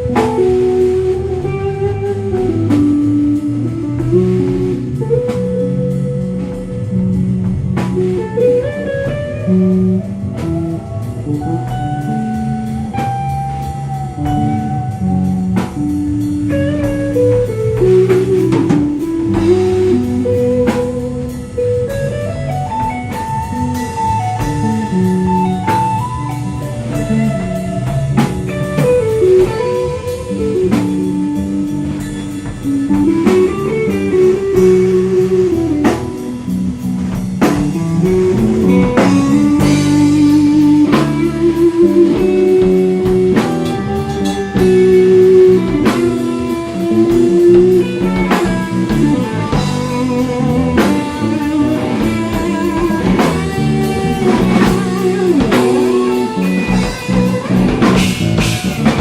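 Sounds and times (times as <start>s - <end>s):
drum kit: 0.0s - 59.0s
electric guitar lead: 0.0s - 59.0s.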